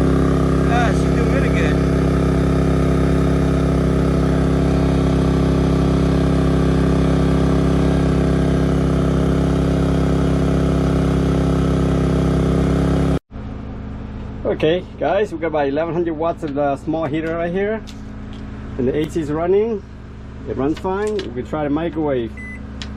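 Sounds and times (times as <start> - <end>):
generator engine running steadily: 0.0 - 22.9.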